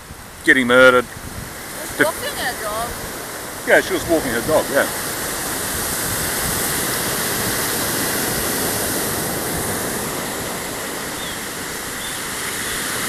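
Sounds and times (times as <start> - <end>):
surf washing on pebbly beach: 0.0 - 13.0.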